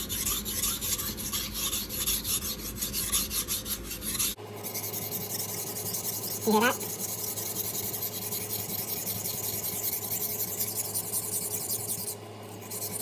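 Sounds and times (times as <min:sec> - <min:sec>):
knife scraping on water stone: 0:00.0 - 0:13.0.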